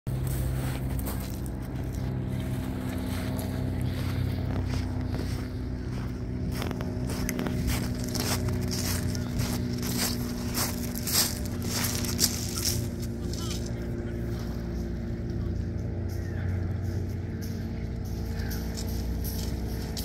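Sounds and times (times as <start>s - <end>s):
low motor hum with held tones: 0.1s - 20.0s.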